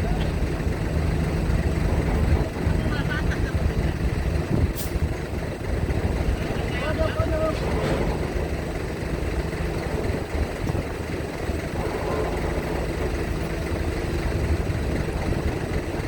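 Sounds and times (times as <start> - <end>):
heavy vehicle engines rumbling: 0.0 - 16.0.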